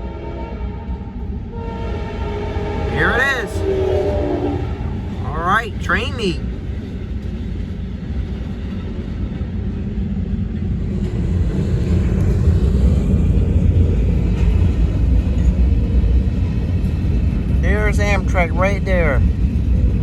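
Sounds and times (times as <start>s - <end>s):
approaching train: 0.0s - 20.0s
freight train cars rumbling: 0.0s - 20.0s.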